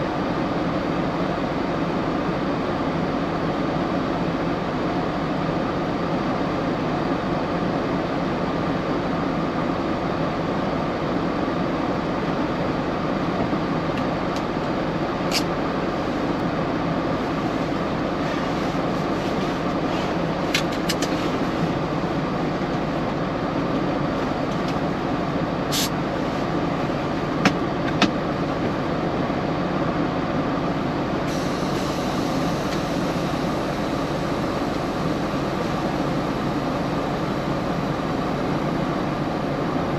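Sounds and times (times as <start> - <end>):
truck road and engine noise: 0.0 - 39.9.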